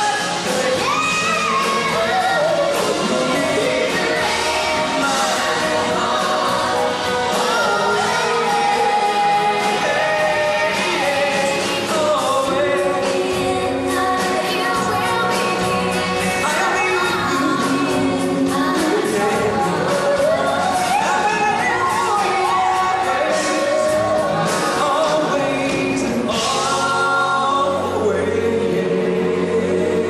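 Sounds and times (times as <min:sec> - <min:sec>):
rock band playing: 0:00.0 - 0:27.6
singers holding long notes: 0:00.0 - 0:30.0.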